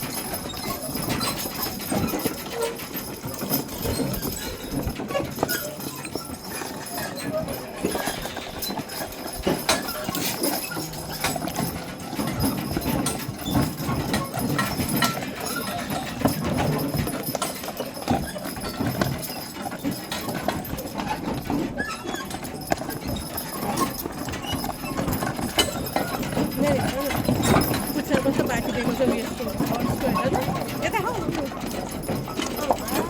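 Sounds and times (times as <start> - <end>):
horse hooves clip-clopping: 0.0 - 33.0
knocks and clatter: 0.0 - 33.0.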